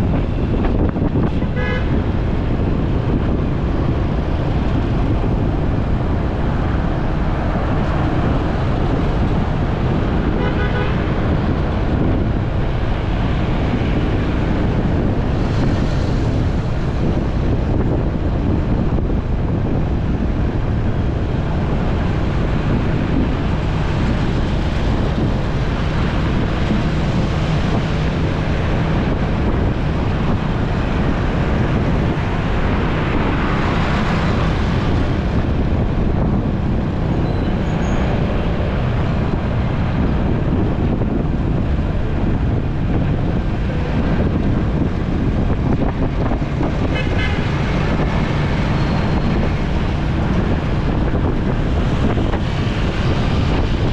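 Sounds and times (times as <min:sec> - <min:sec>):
passing vehicles: 0:00.0 - 0:53.9
wind rushing over microphone: 0:00.0 - 0:53.9.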